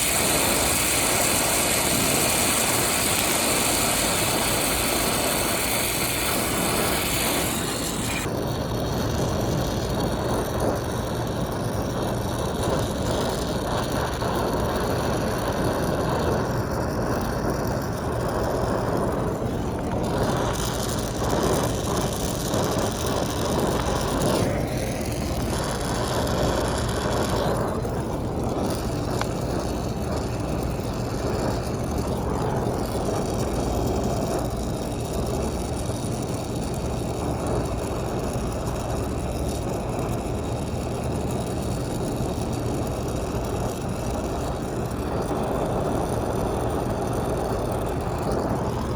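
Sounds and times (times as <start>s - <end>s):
low mechanical hum: 0.0s - 48.9s
torch flame hissing: 0.0s - 48.9s.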